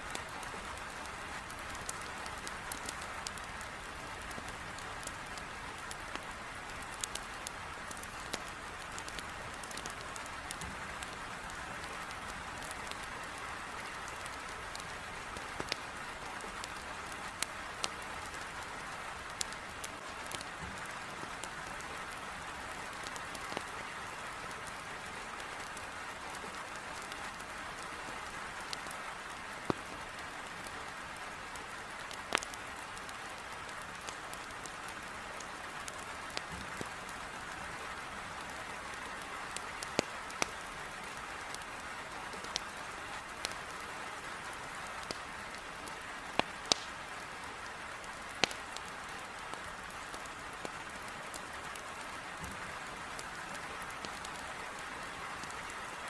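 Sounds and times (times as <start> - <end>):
heavy rain on a window: 0.0 - 56.0
wood crackling in fireplace: 0.0 - 56.0.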